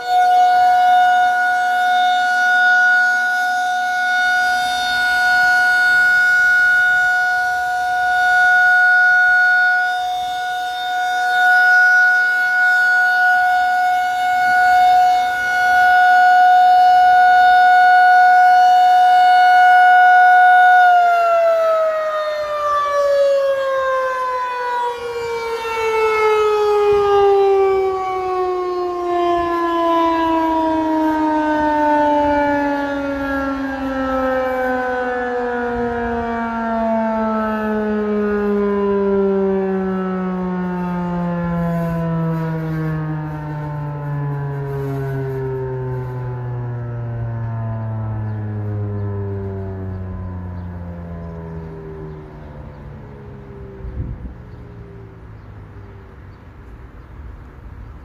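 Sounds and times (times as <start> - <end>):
warning siren wailing: 0.0 - 58.0.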